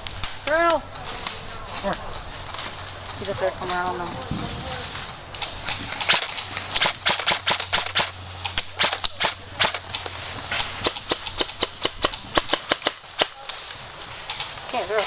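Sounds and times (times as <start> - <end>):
airsoft guns firing: 2.6 - 15.0.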